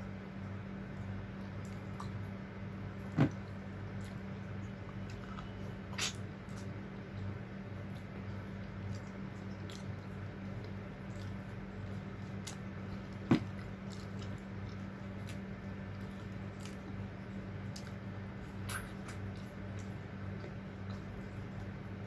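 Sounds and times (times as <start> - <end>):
steady low hum: 0.0 - 22.0
wet chewing: 1.0 - 21.8.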